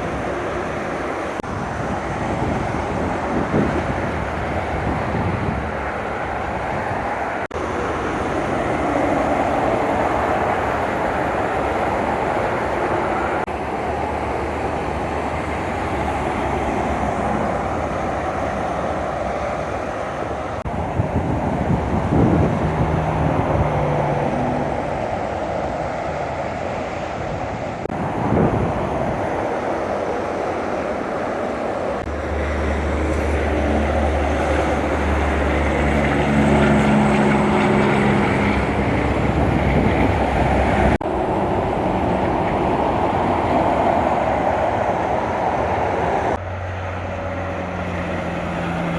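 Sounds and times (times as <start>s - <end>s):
diesel truck engines droning: 0.0s - 48.9s
road and tyre noise: 0.0s - 48.9s.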